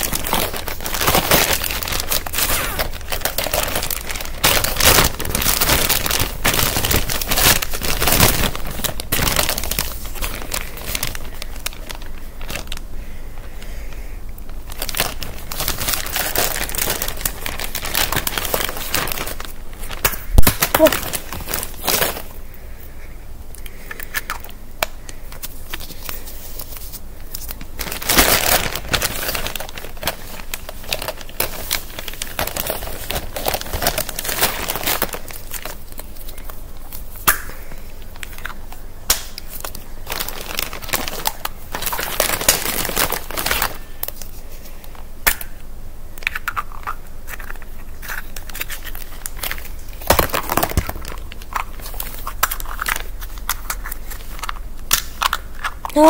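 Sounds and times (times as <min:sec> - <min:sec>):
plastic bag crinkling: 0:00.0 - 0:22.6, 0:23.6 - 0:45.0, 0:46.2 - 0:56.0.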